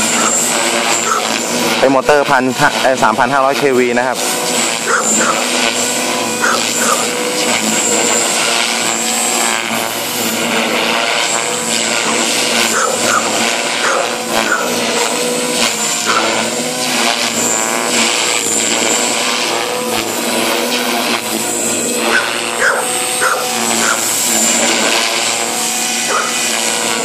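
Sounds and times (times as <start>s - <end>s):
rc helicopter motor whine: 0.0s - 27.0s
rotor swishing: 0.0s - 27.0s.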